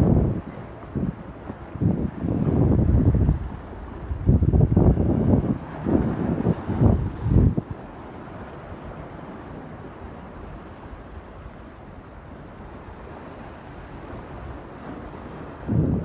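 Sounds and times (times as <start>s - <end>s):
wind noise on microphone: 0.0s - 11.7s, 12.6s - 16.0s
ocean surf rushing: 0.0s - 16.0s.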